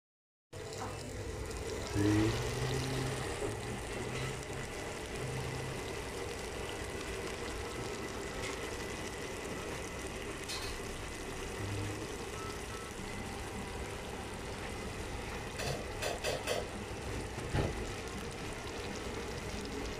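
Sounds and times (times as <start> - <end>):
sauce bubbling in hot pot: 0.6 - 19.9.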